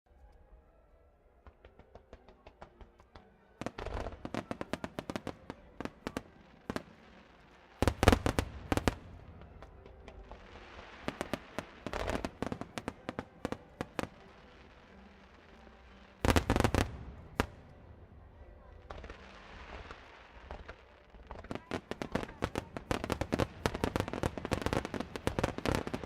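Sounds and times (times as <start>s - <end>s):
fireworks bursting: 1.4s - 26.0s
fireworks crackling: 1.4s - 26.0s.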